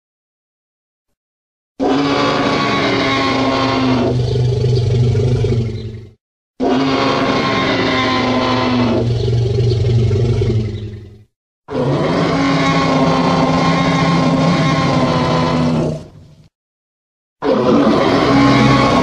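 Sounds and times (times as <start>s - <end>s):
deep creature roars: 1.8s - 16.2s, 17.4s - 19.0s.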